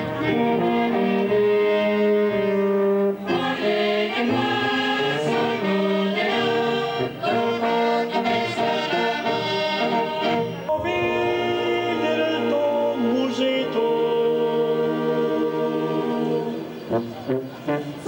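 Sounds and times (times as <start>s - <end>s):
group of voices singing: 0.0s - 17.0s
piano accordion playing a tune: 0.0s - 18.0s.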